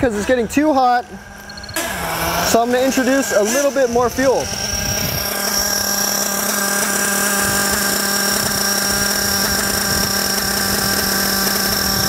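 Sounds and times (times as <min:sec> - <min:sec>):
model engine idling with whine: 0:00.0 - 0:12.0.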